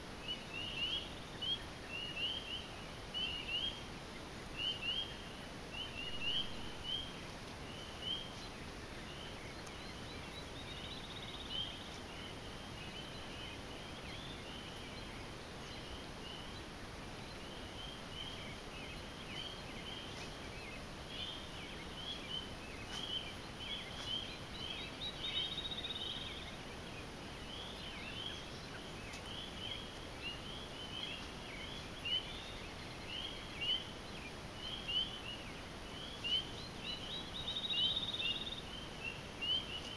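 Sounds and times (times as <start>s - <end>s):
faint steady hiss: 0.0s - 39.9s
high peeping calls: 0.1s - 39.9s.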